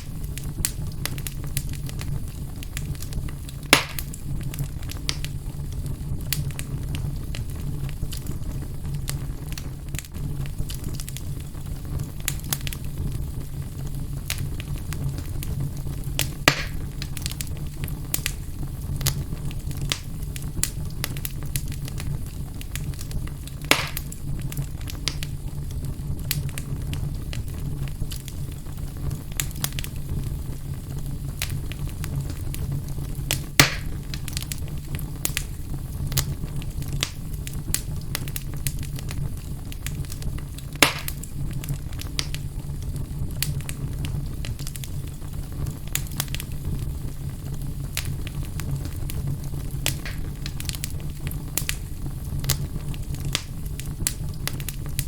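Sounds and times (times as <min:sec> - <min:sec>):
fire crackling: 0:00.0 - 0:55.0
fire rumble: 0:00.0 - 0:55.0
loud fire pops: 0:00.0 - 0:55.0.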